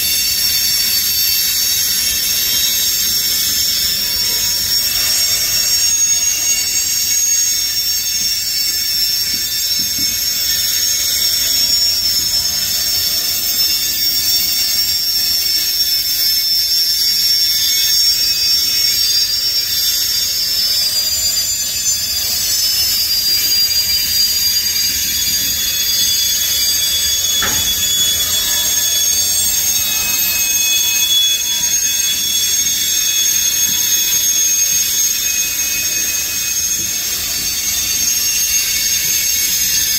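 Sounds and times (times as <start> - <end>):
freight train wheels squealing: 0.0 - 39.9.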